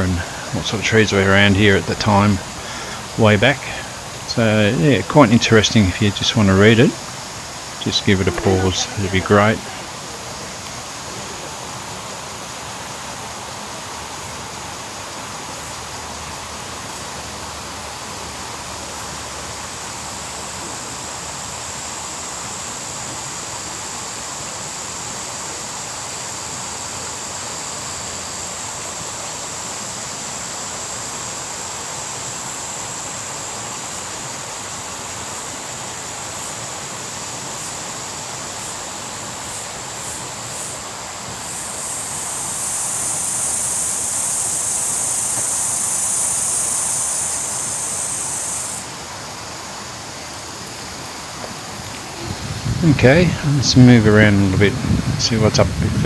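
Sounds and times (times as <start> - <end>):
high insect drone: 0.0 - 56.0
small stream rushing: 0.0 - 56.0.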